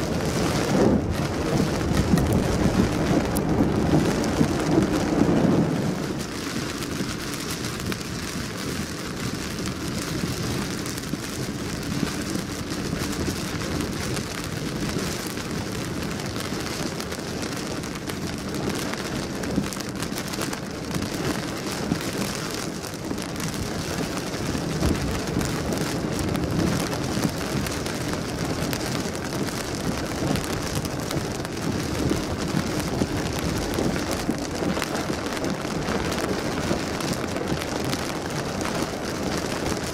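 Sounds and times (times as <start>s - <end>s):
heavy rain on car windscreen: 0.0s - 39.9s.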